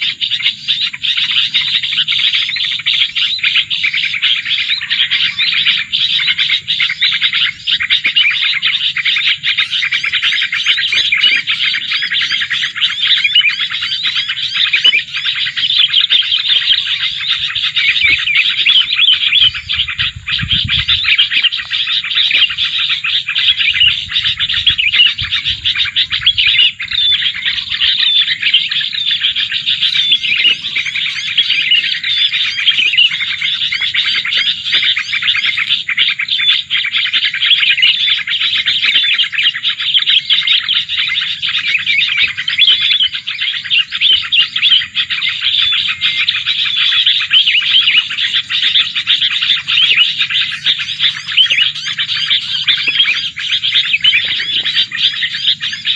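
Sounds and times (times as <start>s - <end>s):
birds chirping rapidly: 0.0s - 55.9s.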